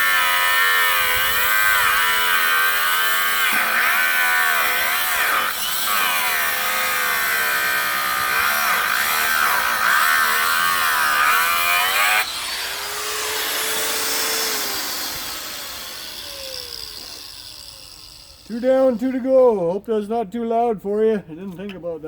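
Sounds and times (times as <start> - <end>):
angle grinder cutting metal bolt: 0.0 - 19.3.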